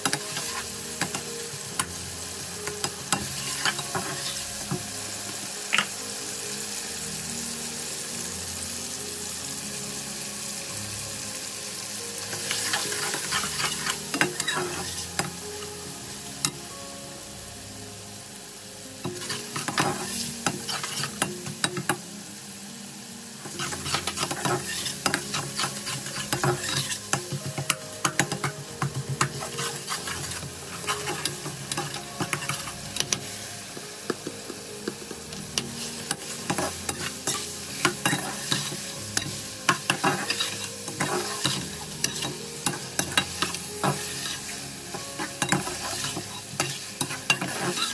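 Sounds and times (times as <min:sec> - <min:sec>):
masala sizzling in oil: 0:00.0 - 0:47.9.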